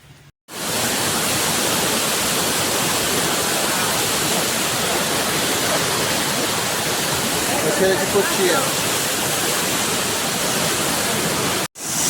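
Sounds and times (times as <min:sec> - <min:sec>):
waterfall roaring: 0:00.5 - 0:12.0.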